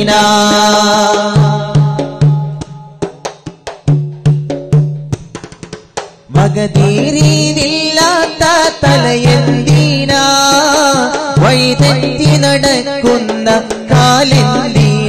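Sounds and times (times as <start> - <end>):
hand-drum strokes: 0.0 - 15.0.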